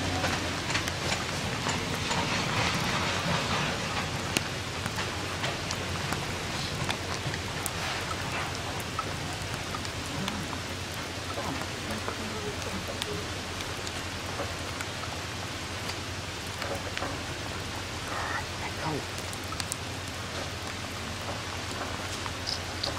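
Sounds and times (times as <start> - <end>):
raindrops ticking: 0.0 - 22.9
steady rain falling: 0.0 - 22.9.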